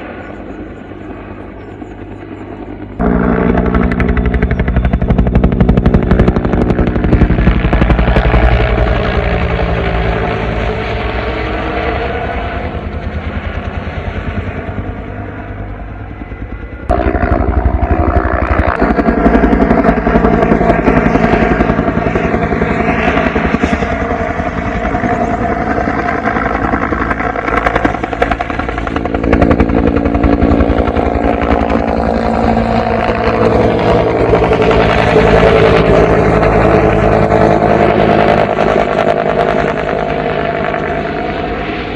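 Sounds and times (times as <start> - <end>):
helicopter rotor and engine drone: 0.0 - 41.9.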